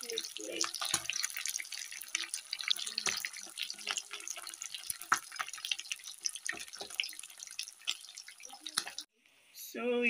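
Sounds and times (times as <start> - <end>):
fish deep-frying in sizzling oil: 0.0 - 9.1.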